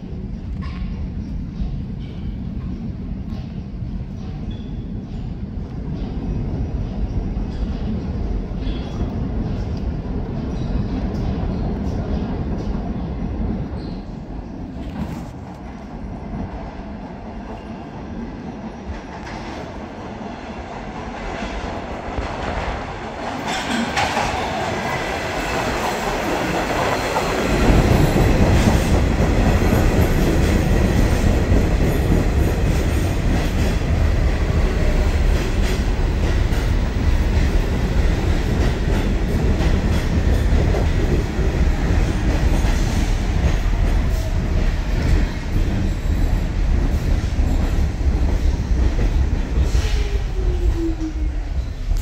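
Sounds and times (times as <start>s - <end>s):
subway train wheels rumbling: 0.0s - 52.0s.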